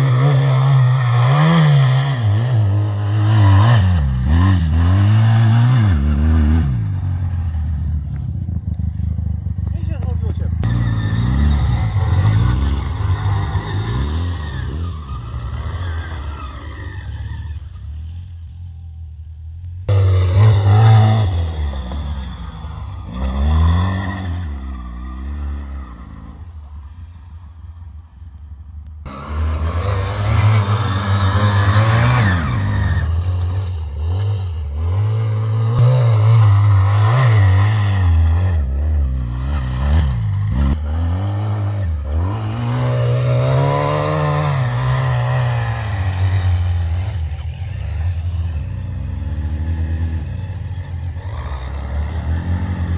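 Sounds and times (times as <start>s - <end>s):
atv engine revving: 0.0s - 19.0s, 19.6s - 27.7s, 29.0s - 52.9s.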